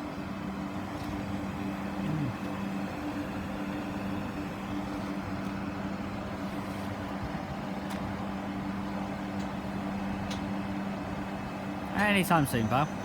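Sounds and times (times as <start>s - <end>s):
train engine idling hum: 0.0s - 13.0s.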